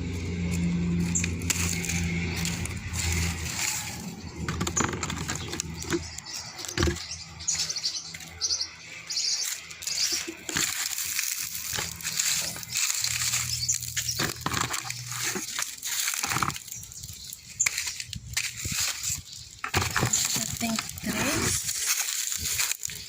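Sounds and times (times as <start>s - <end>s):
rustling vines and leaves: 0.0s - 23.0s.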